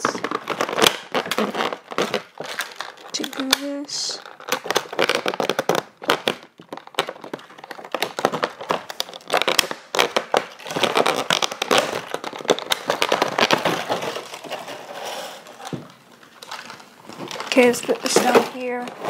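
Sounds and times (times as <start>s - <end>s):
plastic packaging crinkling and cracking: 0.0s - 19.0s.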